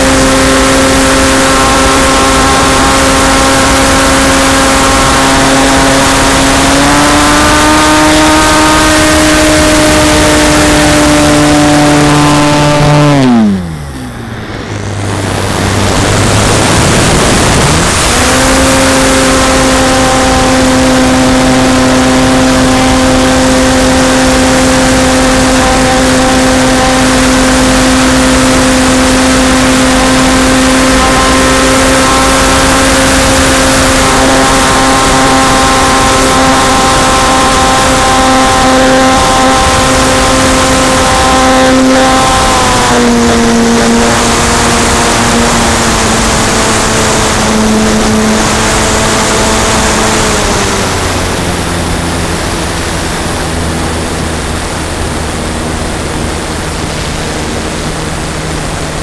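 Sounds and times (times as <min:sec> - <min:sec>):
model airplane motor and propeller: 0:00.0 - 0:59.0
wind rush over microphone: 0:00.0 - 0:59.0.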